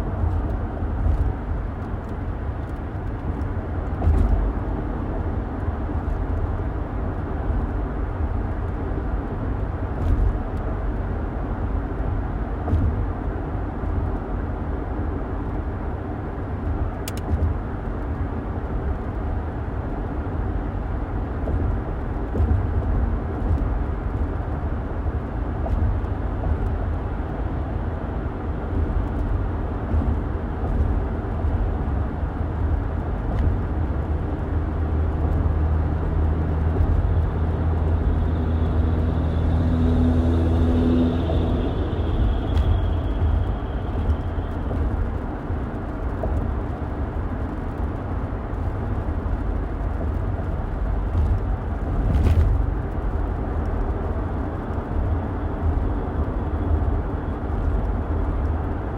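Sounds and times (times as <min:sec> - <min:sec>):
car road and engine rumble: 0:00.0 - 0:58.9.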